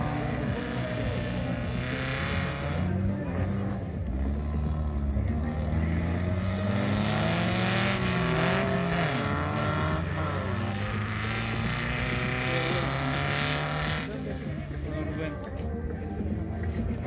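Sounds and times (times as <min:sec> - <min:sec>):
racing buggy engines revving: 0:00.0 - 0:17.0.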